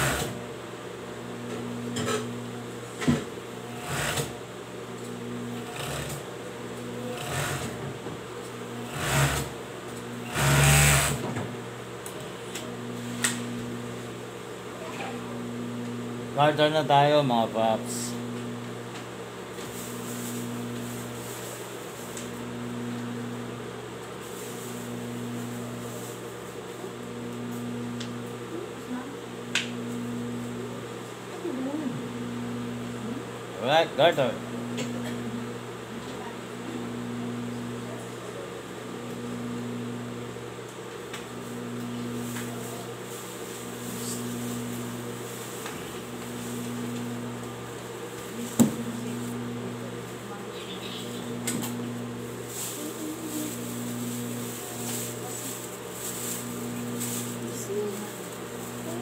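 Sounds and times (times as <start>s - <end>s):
electric motor hum: 0.0s - 59.0s.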